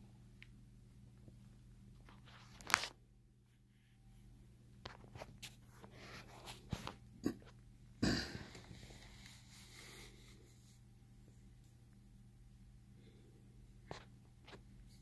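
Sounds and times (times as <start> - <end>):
steady low hum: 3.0 - 15.0.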